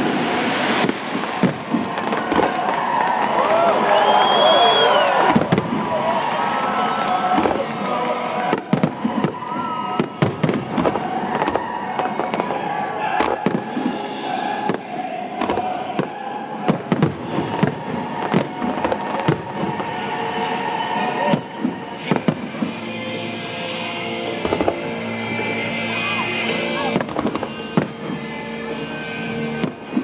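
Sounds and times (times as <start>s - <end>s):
background murmur: 0.0s - 30.0s.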